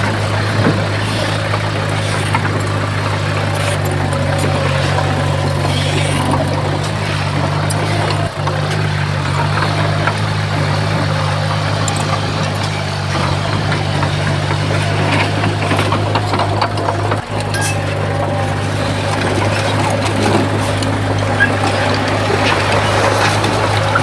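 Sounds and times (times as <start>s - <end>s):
diesel engine under load: 0.0s - 24.0s.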